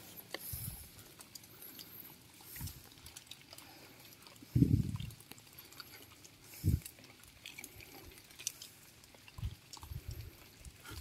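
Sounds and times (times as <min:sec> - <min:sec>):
dog chewing with wet clicks: 0:00.0 - 0:11.0.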